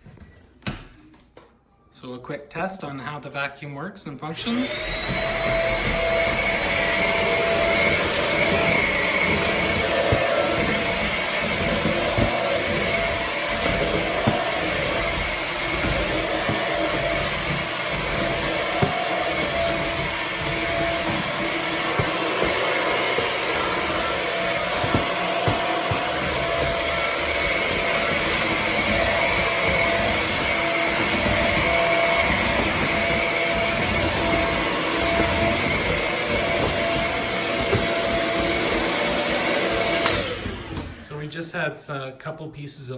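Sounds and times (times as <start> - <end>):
stick vacuum whining: 4.2 - 41.9.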